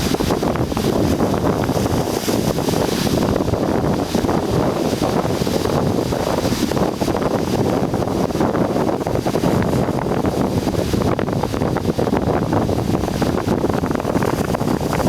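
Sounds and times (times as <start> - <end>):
surf on rocks: 0.0 - 15.0
wind buffeting microphone: 0.0 - 15.0.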